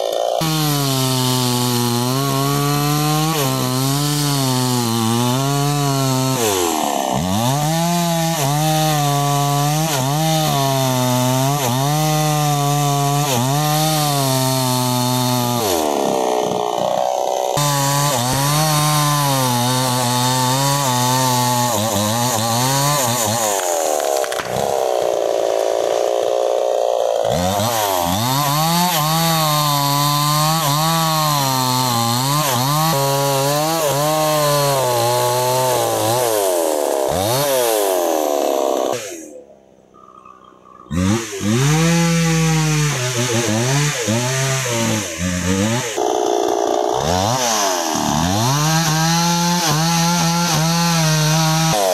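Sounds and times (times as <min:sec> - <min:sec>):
chainsaw cutting wood: 0:00.0 - 0:39.5, 0:40.9 - 0:51.9.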